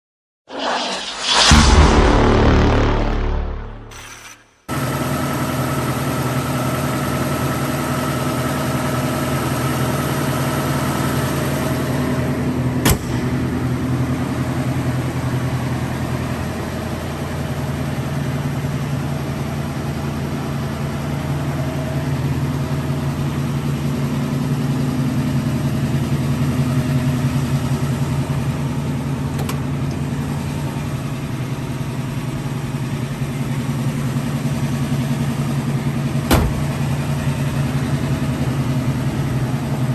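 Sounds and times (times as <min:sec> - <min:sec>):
engine idling: 0:04.7 - 0:39.9.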